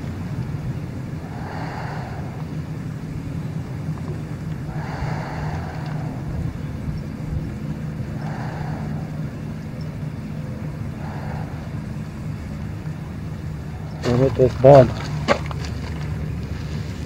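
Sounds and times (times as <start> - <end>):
motor humming: 0.0 - 17.0
soft hissing: 0.4 - 15.0.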